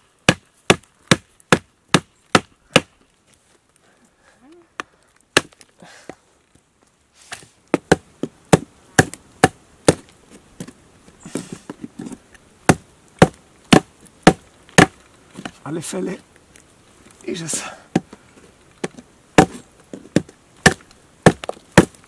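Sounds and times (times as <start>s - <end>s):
wood rustling and crackling: 0.0s - 22.0s.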